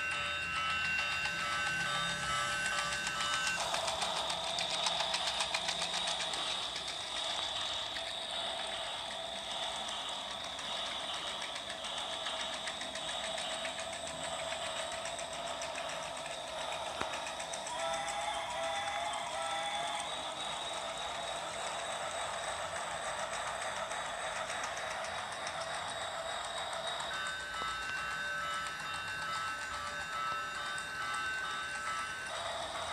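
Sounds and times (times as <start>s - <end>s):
toy train motor whirring: 0.0s - 32.9s.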